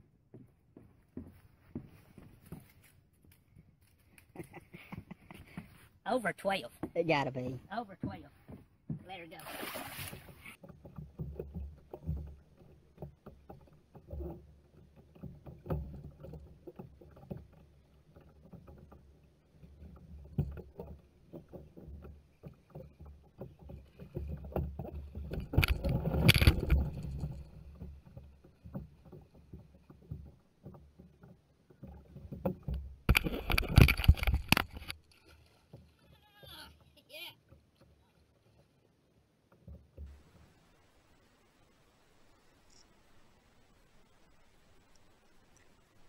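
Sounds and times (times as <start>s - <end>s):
water noise: 1.2s - 46.0s.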